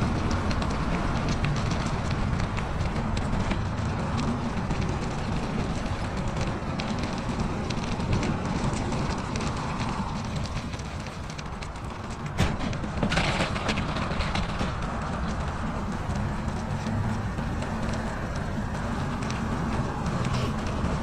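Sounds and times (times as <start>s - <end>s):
bicycle tyres crunching on snow: 0.0s - 21.0s
wind rumbling on microphone: 0.0s - 21.0s.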